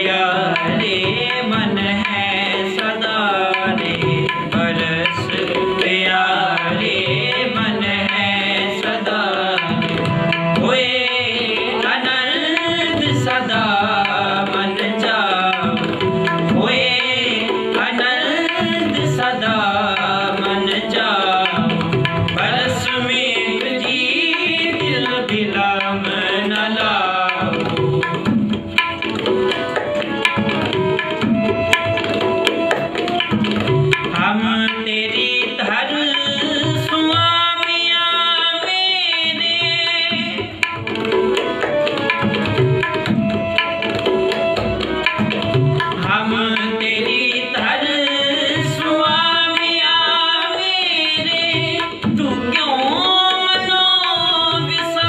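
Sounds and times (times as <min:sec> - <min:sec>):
harmonium melody: 0:00.0 - 0:55.0
tabla rhythm: 0:00.0 - 0:55.0.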